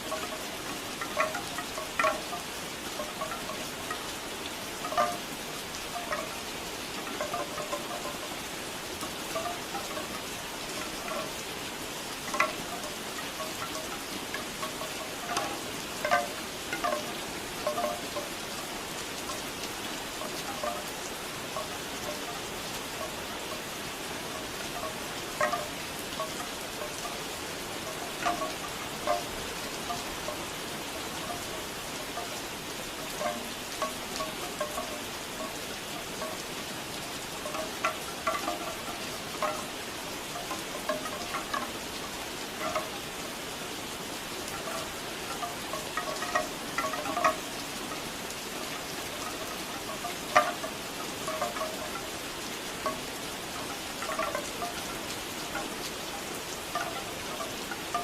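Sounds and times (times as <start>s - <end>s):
bamboo wind chimes clacking: 0.0s - 58.0s
steady rain: 0.0s - 58.0s.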